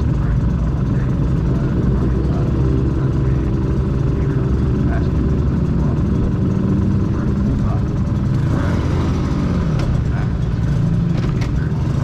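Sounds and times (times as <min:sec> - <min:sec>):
heavy low rumble: 0:00.0 - 0:12.0
motorcycle engine running: 0:00.0 - 0:12.0.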